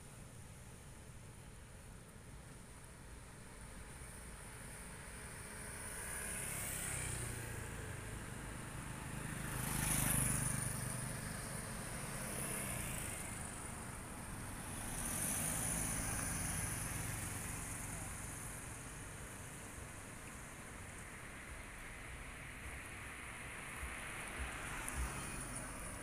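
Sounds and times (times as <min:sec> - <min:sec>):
vehicles passing: 0:03.8 - 0:26.0.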